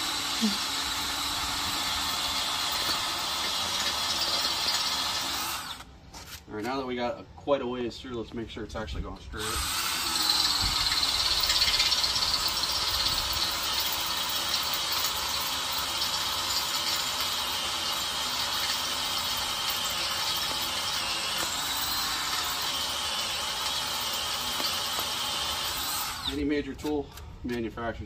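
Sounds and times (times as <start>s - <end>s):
drill boring into metal: 0.0s - 5.8s, 9.4s - 26.5s.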